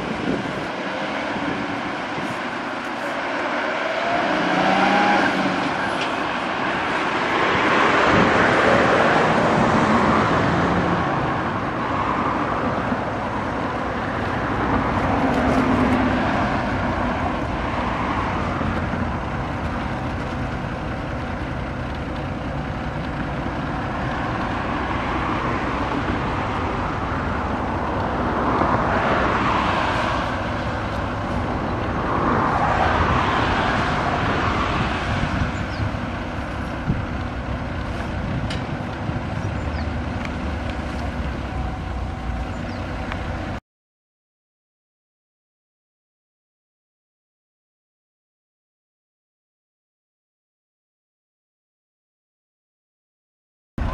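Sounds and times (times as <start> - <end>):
cars passing: 0.0 - 43.6.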